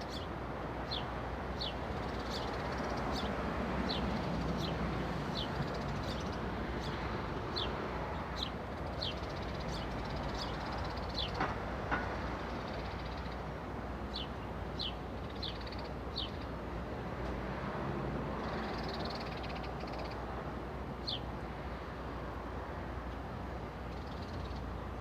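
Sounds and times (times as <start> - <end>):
distant traffic hum: 0.0 - 25.0.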